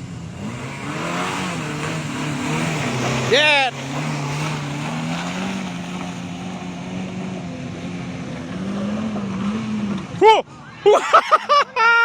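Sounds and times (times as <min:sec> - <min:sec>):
dump truck engine straining: 0:00.0 - 0:12.0.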